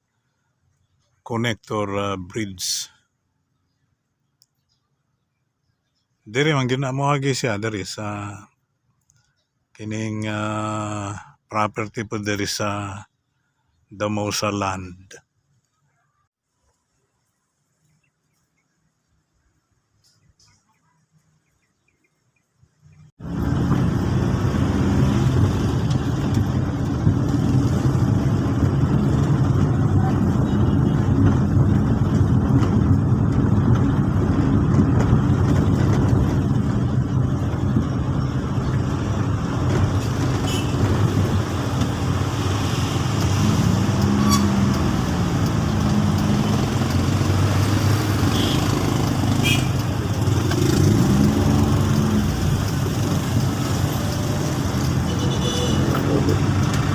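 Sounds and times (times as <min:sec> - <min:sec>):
vehicle engine and road rumble: 0:00.0 - 0:56.9.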